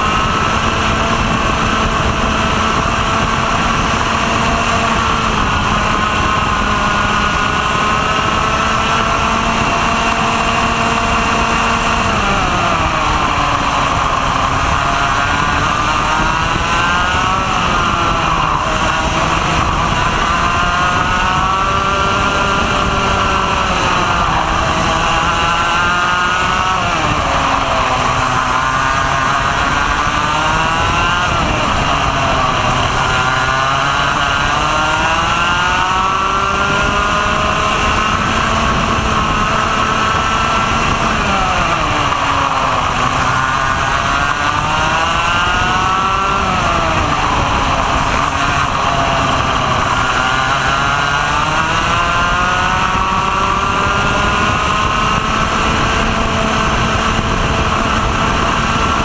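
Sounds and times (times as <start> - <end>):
kart engine racing: 0.0 - 59.0.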